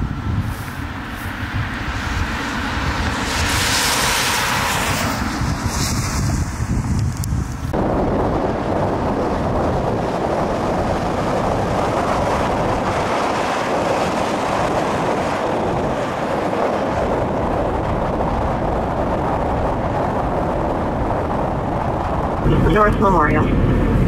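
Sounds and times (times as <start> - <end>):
tyre noise on snowy road: 0.0 - 24.0
wind noise: 0.0 - 24.0.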